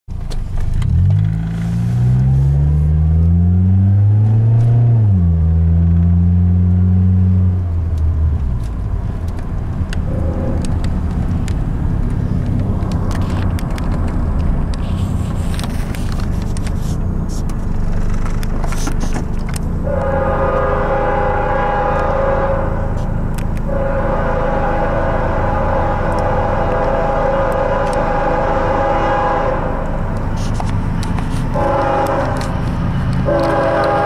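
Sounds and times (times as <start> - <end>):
road rumble: 0.1 - 34.0
car engine accelerating: 0.2 - 34.0.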